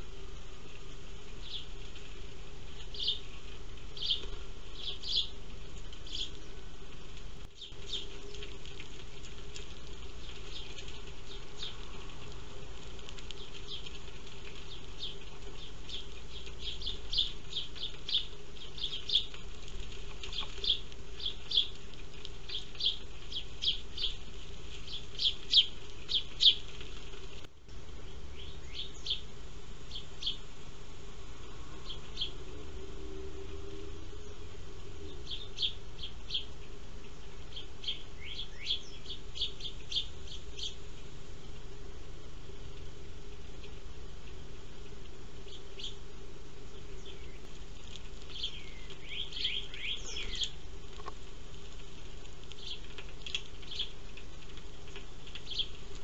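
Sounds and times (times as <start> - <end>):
steady low hum: 0.0 - 56.0
sparrows chirping: 1.3 - 30.6, 31.7 - 41.6, 44.8 - 51.2, 52.4 - 56.0.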